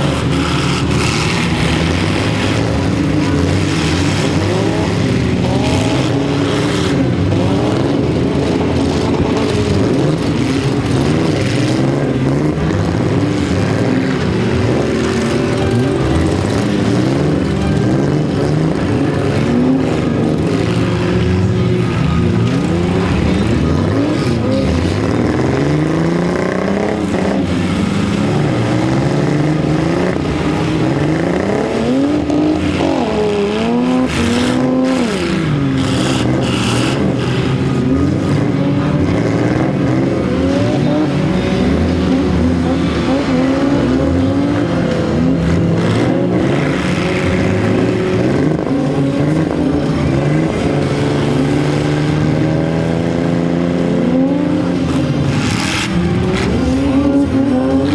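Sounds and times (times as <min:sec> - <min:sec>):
car engines revving: 0:00.0 - 0:57.9.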